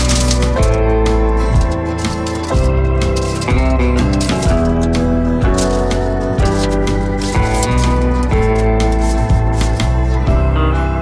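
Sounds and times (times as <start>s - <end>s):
plucked guitar melody: 0.0s - 11.0s
steady bass line: 0.0s - 11.0s.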